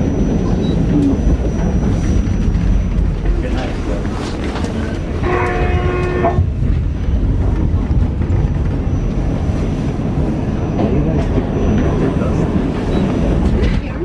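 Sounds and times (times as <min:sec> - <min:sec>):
subway train wheels rumbling on rails: 0:00.0 - 0:14.0.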